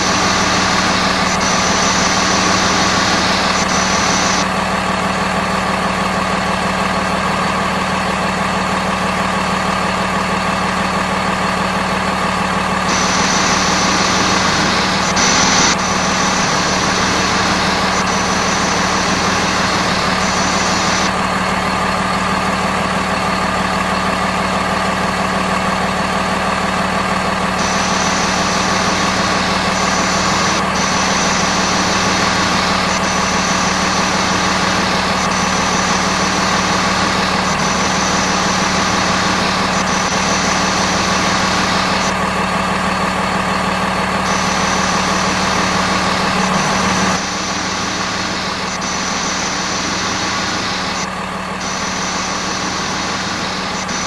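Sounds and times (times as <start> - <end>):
toy truck engine idling: 0.0 - 54.0.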